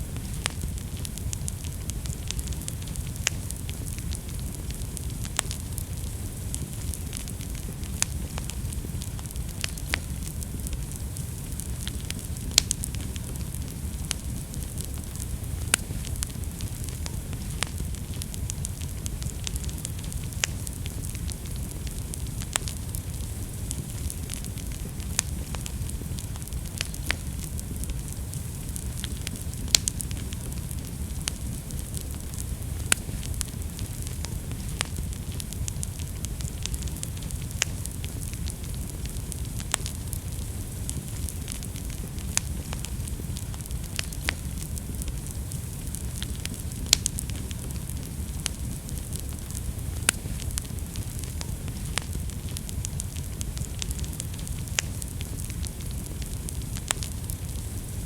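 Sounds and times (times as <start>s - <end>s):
fire flames rumbling: 0.0s - 58.0s
wood crackling and popping: 0.0s - 58.0s.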